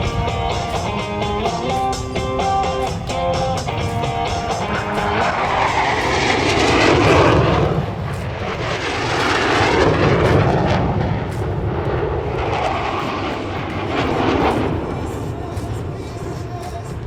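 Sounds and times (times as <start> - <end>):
jet fighter engine roar: 0.0 - 17.0.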